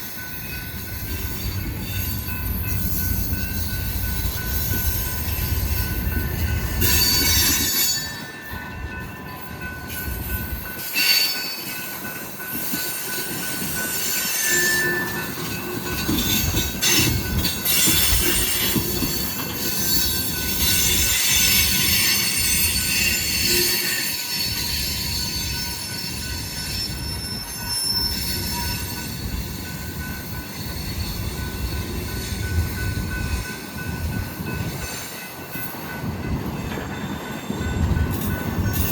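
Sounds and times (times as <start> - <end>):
freight train rumbling past: 0.0 - 38.9
wheels squealing on rails: 0.0 - 38.9.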